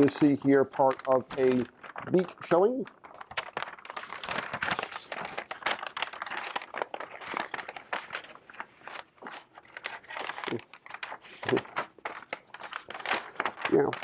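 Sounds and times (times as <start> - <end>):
paper crinkling and rustling: 0.0 - 14.0.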